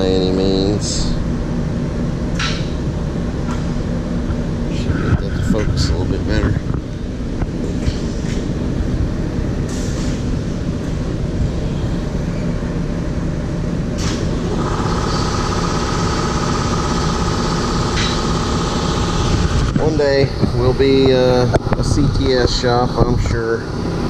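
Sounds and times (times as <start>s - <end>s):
high-pitched whine: 0.0s - 24.0s
printing press machine hum: 0.0s - 24.0s.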